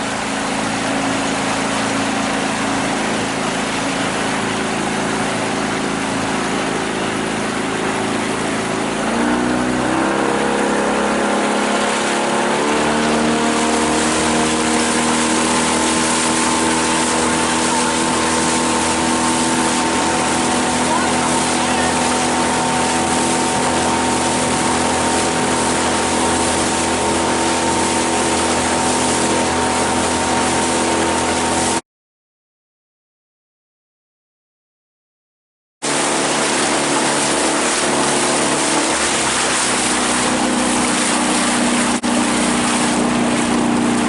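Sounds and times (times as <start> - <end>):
outboard motor revving: 0.0 - 31.8, 35.8 - 44.0.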